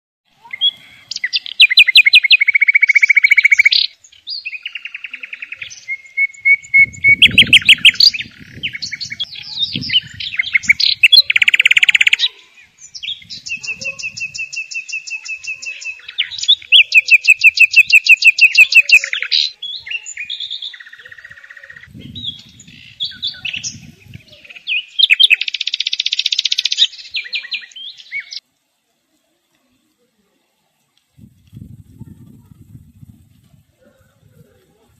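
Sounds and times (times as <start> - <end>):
songbird singing: 0.3 - 34.9.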